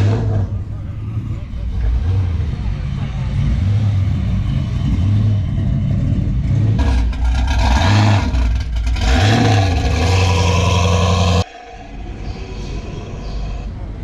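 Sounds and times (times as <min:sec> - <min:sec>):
car engine idling and revving: 0:00.0 - 0:11.5.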